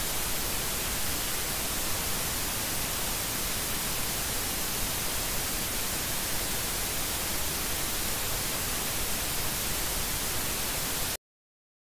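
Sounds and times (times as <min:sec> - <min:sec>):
static hiss: 0:00.0 - 0:11.2.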